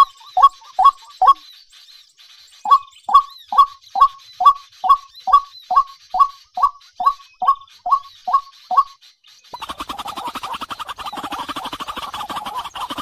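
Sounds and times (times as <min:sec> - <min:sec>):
faint high chirping: 0:00.0 - 0:13.0.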